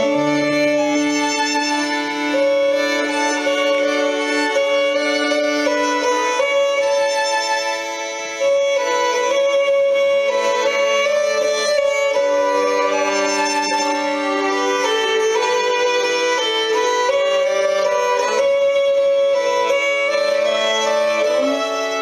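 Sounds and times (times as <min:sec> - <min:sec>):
slow melody of long notes: 0:00.0 - 0:09.4, 0:10.5 - 0:22.0.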